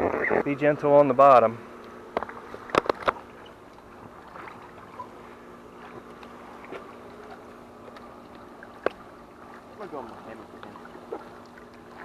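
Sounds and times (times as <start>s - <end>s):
pool pump humming: 0.0s - 12.0s
water sloshing and splashing: 1.2s - 12.0s.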